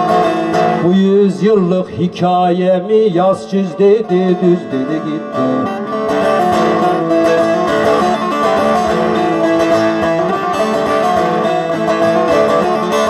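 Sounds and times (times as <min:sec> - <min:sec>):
long-necked lute plucked rapidly: 0:00.0 - 0:13.0.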